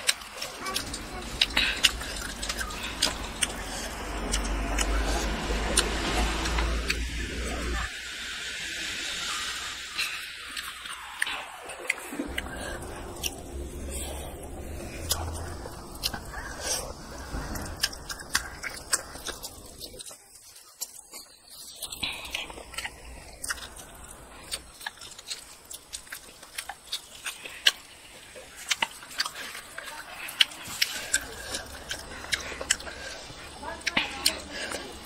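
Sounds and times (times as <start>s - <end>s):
close-miked wet chewing: 0.0s - 7.9s, 9.2s - 35.0s.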